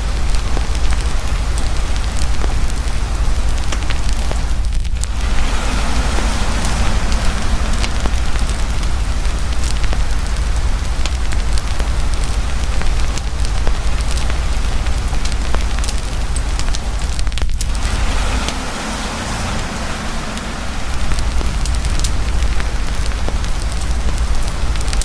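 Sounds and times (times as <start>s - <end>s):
campfire crackling and popping: 0.0s - 25.0s
heavy steady rain: 0.0s - 25.0s
low rumble: 0.3s - 25.0s.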